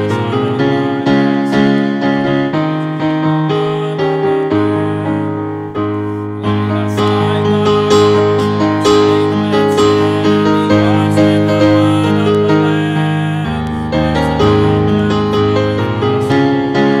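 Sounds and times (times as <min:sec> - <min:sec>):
grand piano playing chords: 0:00.0 - 0:17.0.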